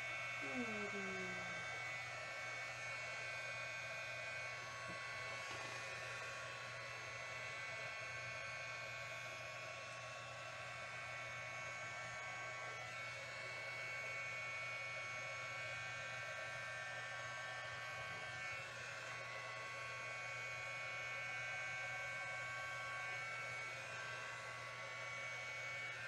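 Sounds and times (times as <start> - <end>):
blow dryer running: 0.0 - 26.0.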